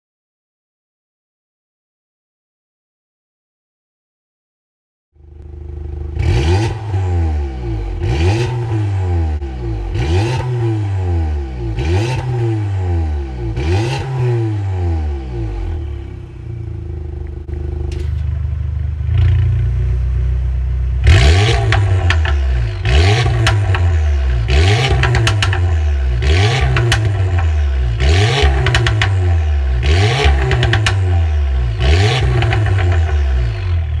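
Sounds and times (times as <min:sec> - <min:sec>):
car engine revving: 0:05.4 - 0:18.2, 0:18.9 - 0:34.0.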